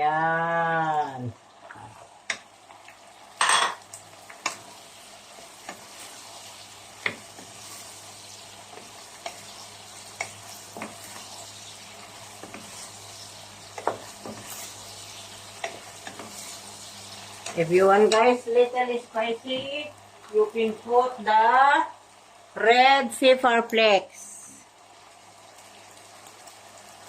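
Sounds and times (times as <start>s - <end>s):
sauce sizzling in a pan: 0.0s - 27.0s.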